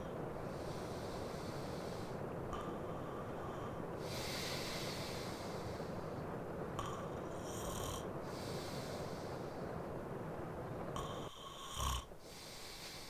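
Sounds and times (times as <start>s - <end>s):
man breathing heavily and snoring: 0.0s - 13.0s
rain: 0.0s - 13.0s.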